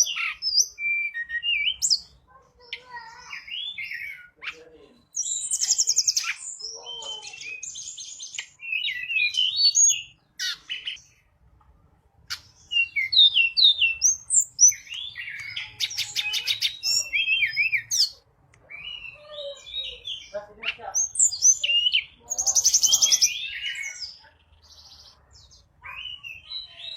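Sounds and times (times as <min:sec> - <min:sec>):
songbird singing: 0:00.0 - 0:26.9.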